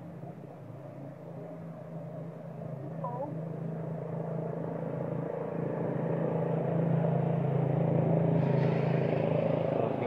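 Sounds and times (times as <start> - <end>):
motor engine humming: 0.0 - 10.0.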